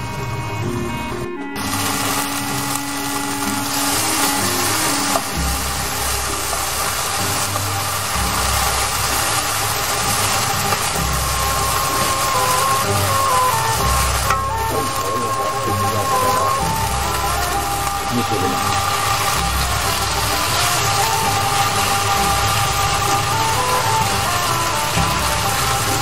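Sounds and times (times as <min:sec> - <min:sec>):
food sizzling in hot oil: 0:01.6 - 0:26.0
wooden spatula stirring: 0:01.6 - 0:26.0.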